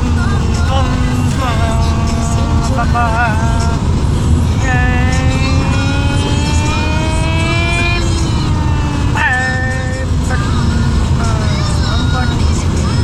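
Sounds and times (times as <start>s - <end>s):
steady low rumble: 0.0s - 13.0s
child imitating car engine: 0.7s - 3.9s, 4.5s - 12.5s.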